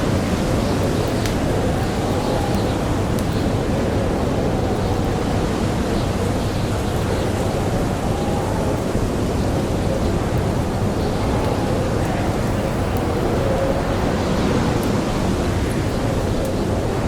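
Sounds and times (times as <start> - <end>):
blizzard wind howling: 0.0 - 17.0
faint campfire crackle: 0.0 - 17.0.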